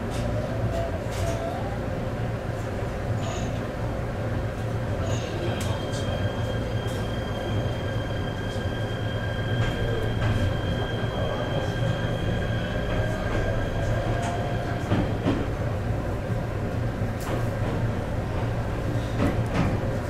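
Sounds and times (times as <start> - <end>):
train running hum: 0.0 - 20.0.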